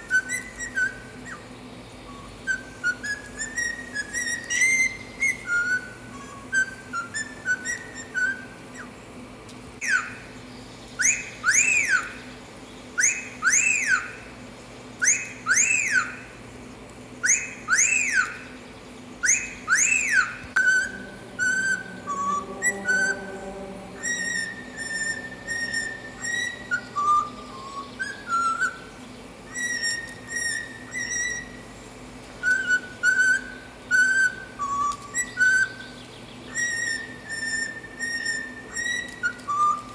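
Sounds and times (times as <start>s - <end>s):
cockatiel whistling: 0.0s - 1.4s, 2.1s - 8.9s, 9.8s - 10.2s, 11.0s - 12.2s, 13.0s - 14.2s, 15.0s - 16.2s, 17.2s - 18.5s, 19.2s - 28.9s, 29.5s - 31.7s, 32.4s - 39.9s.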